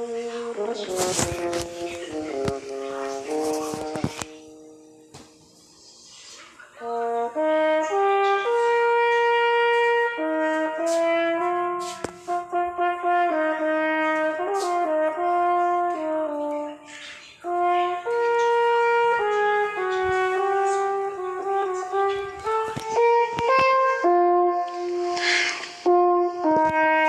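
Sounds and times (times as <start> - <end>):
french horn melody: 0.0 - 5.8, 6.8 - 27.0.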